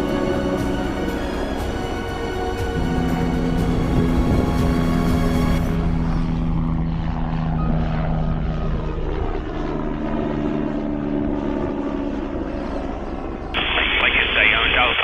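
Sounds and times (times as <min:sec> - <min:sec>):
model helicopter rotor hum: 0:00.0 - 0:13.5.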